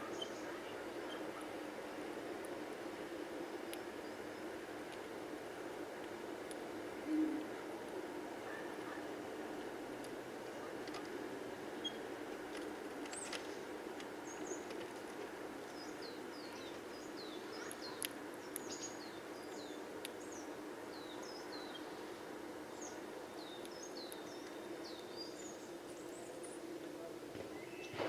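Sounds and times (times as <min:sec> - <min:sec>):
low background hum: 0:00.0 - 0:28.0
songbirds chirping: 0:00.0 - 0:28.0.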